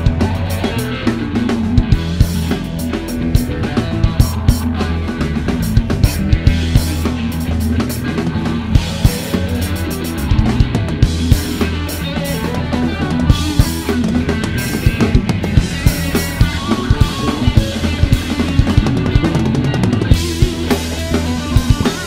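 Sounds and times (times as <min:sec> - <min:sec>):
drum kit beat: 0:00.0 - 0:22.0
electric bass guitar: 0:00.0 - 0:22.0
electric guitar: 0:00.0 - 0:22.0.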